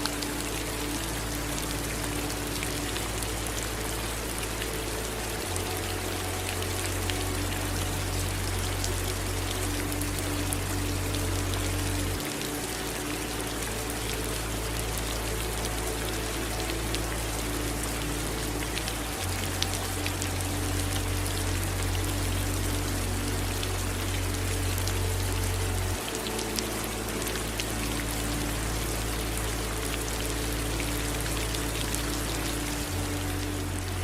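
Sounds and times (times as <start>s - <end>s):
low steady hum: 0.0s - 34.0s
running water: 0.0s - 34.0s
steady rain: 0.0s - 34.0s.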